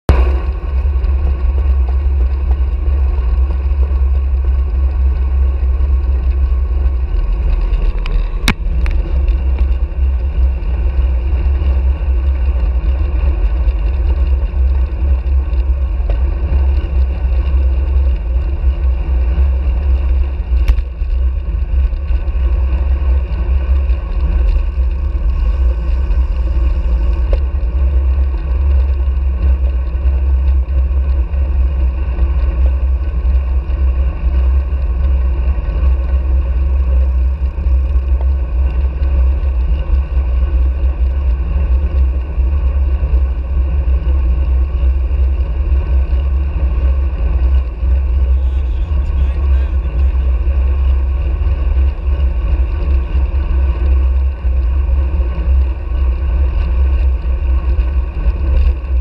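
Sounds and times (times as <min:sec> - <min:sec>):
road and tyre noise: 0:00.0 - 0:59.0.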